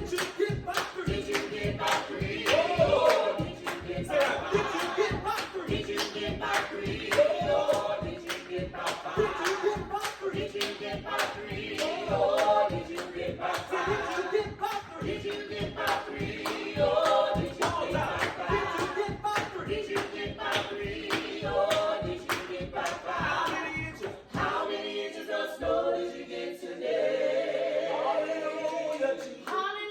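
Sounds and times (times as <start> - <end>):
percussive beat: 0.0 - 24.8
voices singing in harmony: 0.0 - 29.9.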